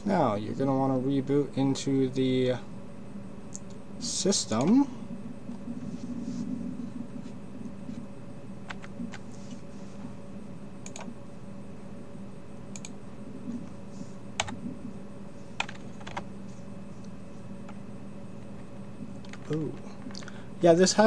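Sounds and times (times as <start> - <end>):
steady faint hum: 0.0 - 21.0.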